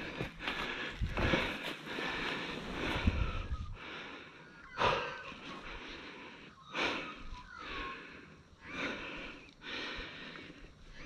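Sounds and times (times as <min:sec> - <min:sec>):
person breathing: 0:00.0 - 0:11.0.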